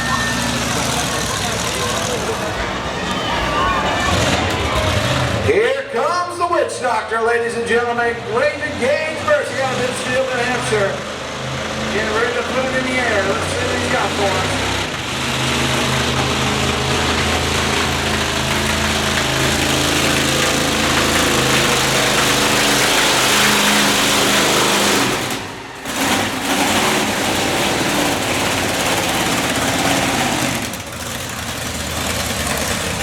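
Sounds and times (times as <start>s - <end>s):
monster truck engine revving: 0.0s - 6.0s, 7.5s - 33.0s.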